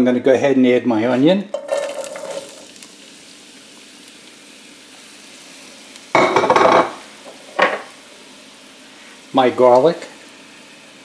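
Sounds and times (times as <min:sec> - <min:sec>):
onions sizzling in oil: 0:01.0 - 0:11.0.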